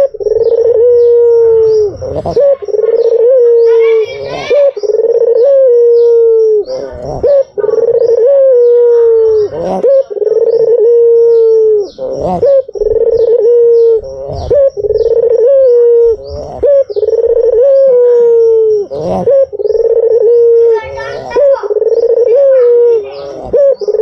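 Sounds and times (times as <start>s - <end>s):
dove cooing: 0.0s - 24.0s
faint high ticking: 0.0s - 24.0s.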